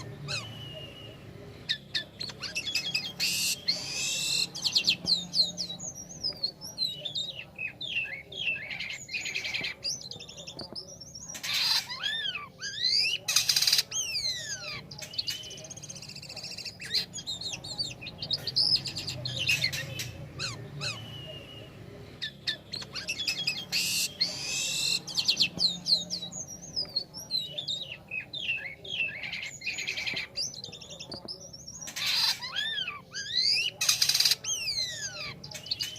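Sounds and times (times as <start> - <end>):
starling singing: 0.0 - 35.9.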